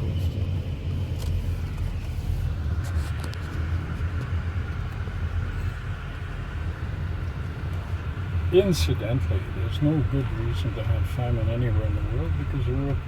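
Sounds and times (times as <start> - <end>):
faint steady whine: 0.0 - 13.0
vehicle rumble: 0.0 - 13.0.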